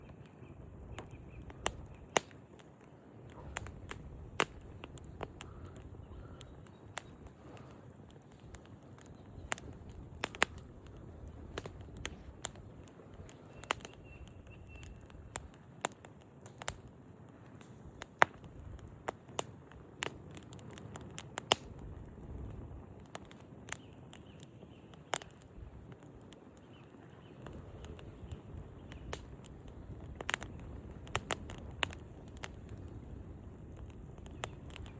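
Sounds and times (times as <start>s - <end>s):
campfire pops and snaps: 0.0s - 34.9s
low rumble of flames: 0.0s - 34.9s.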